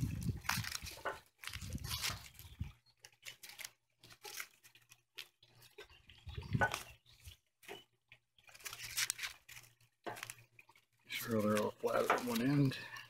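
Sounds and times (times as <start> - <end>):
dry reeds rustling and knocking: 0.0 - 13.0.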